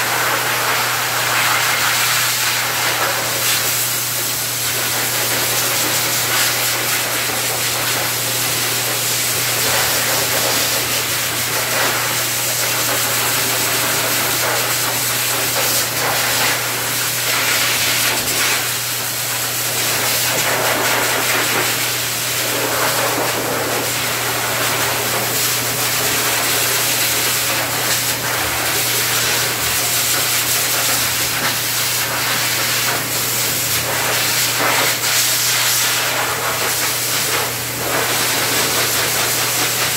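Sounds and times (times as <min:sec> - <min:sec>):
blow dryer air rushing: 0:00.0 - 0:39.9.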